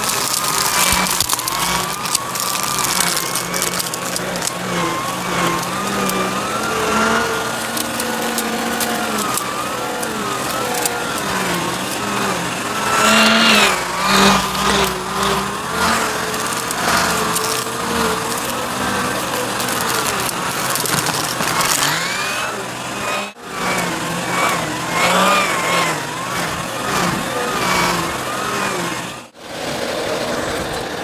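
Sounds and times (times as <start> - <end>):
vacuum cleaner running: 0.0 - 30.7.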